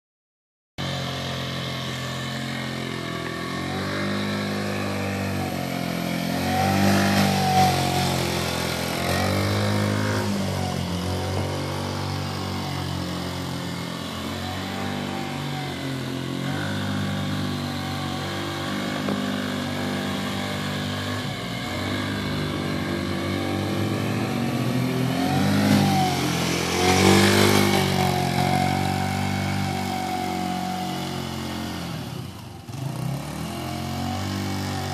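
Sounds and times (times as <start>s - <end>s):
atv engine revving: 0.8s - 34.9s.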